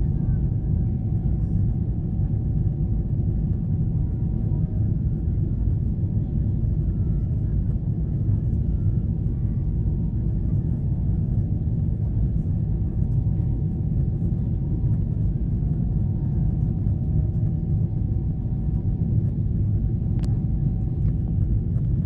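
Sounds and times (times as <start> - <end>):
airplane engines: 0.0 - 22.0.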